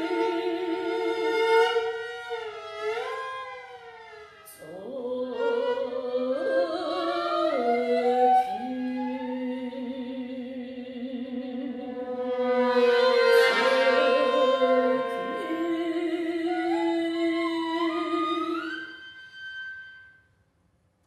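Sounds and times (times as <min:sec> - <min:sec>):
solo viola playing: 0:00.0 - 0:10.0, 0:11.5 - 0:20.2.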